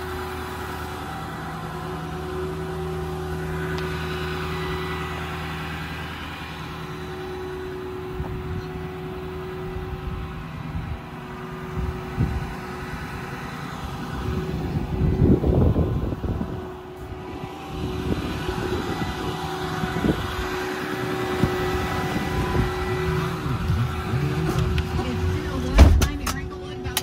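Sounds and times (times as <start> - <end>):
diesel engine idling: 0.0 - 27.0
low rumbling: 0.0 - 27.0.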